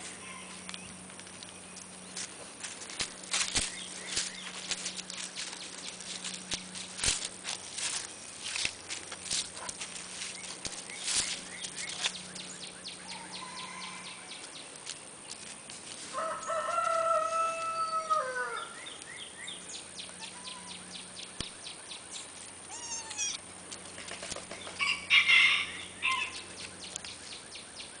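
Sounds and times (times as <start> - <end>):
farmyard animal calls: 0.0 - 28.0.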